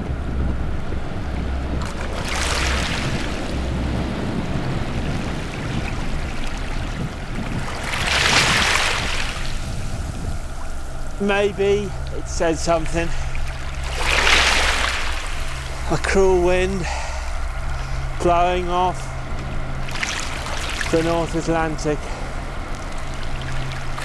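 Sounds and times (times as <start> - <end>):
surf rumble: 0.0 - 24.0
waves washing in: 0.0 - 24.0
wind: 0.0 - 24.0.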